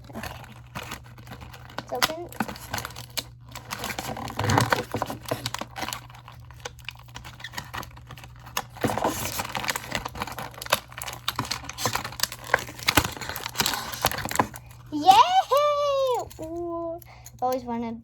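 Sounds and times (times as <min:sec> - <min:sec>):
plastic packaging clicks and crinkles: 0:00.0 - 0:18.0
steady low hum: 0:00.0 - 0:18.0.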